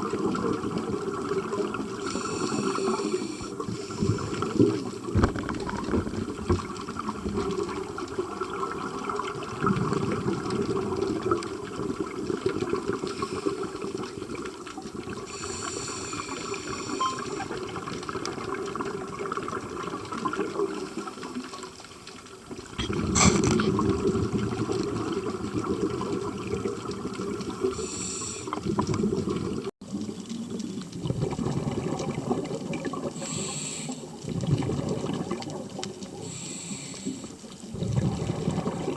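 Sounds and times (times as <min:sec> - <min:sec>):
exhaled bubbles underwater: 0:00.0 - 0:38.9.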